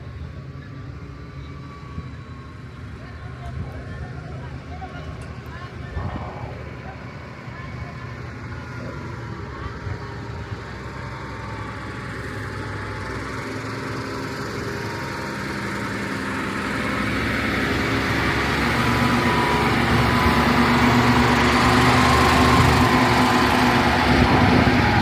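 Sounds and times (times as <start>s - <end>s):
vehicle engine approaching: 0.0s - 25.0s.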